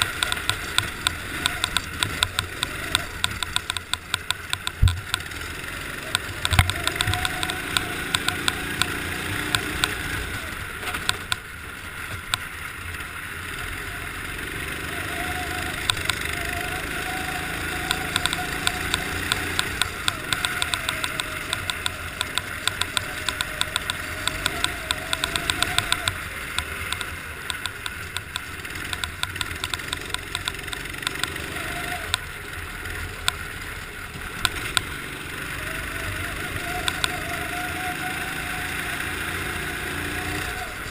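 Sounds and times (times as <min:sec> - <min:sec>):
sharp clicks and rattles: 0:00.0 - 0:13.1, 0:15.1 - 0:40.9
kart engine revving: 0:00.0 - 0:40.9.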